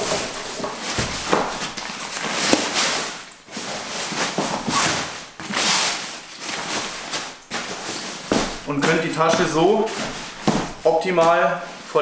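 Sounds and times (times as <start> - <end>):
fabric cover rustling: 0.0 - 12.0.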